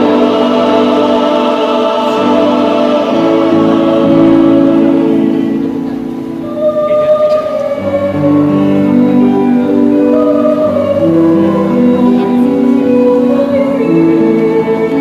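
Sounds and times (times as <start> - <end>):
choir singing slow song: 0.0 - 15.0.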